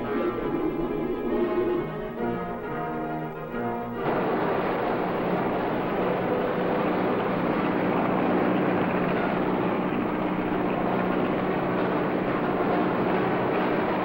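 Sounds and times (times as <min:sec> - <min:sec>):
motor drone: 0:00.0 - 0:14.0
orchestral music: 0:00.0 - 0:14.0.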